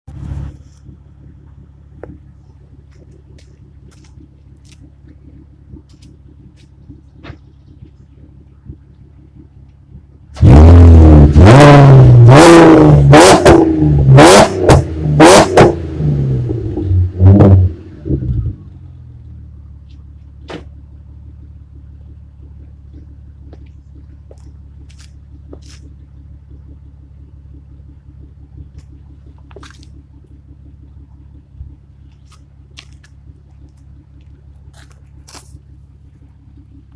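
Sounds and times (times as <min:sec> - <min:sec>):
car engine idling: 0:00.1 - 0:36.9
car engine revving: 0:00.1 - 0:36.9.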